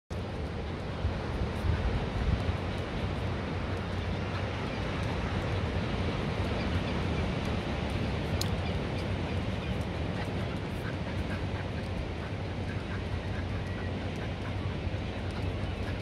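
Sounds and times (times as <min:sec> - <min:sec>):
waves breaking on a beach: 0:00.1 - 0:16.0
wind on microphone: 0:00.1 - 0:16.0.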